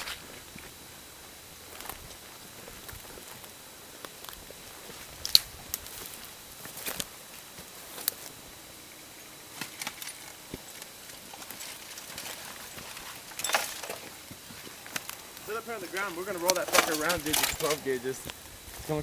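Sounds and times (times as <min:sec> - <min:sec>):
footsteps: 0:00.0 - 0:08.8, 0:09.4 - 0:19.0.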